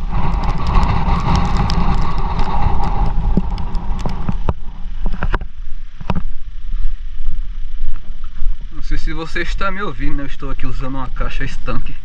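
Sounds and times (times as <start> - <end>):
muffled rumble: 0.0 - 12.0.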